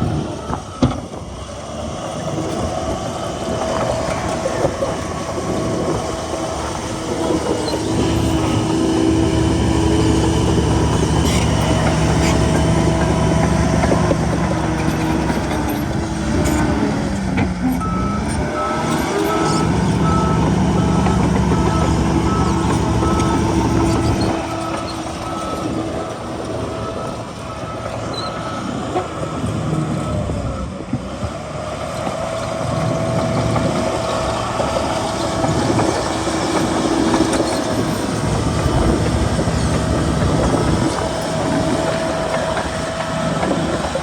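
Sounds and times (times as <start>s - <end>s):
diesel machinery running: 0.0s - 44.0s
truck reversing beeper: 0.0s - 44.0s.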